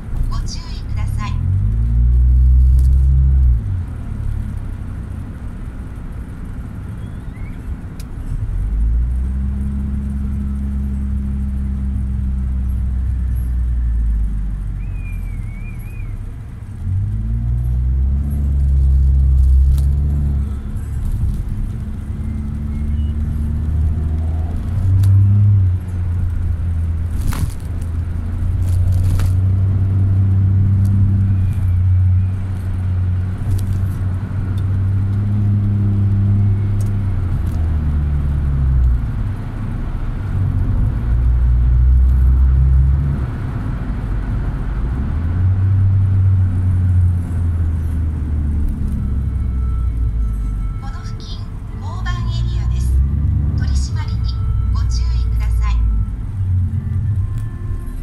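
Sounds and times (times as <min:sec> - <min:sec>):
car engine: 0:00.0 - 0:58.0
road noise inside car: 0:00.0 - 0:58.0.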